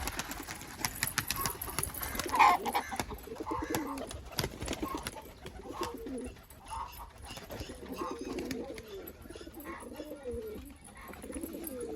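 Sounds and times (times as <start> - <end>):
pigeons cooing: 1.0 - 11.9.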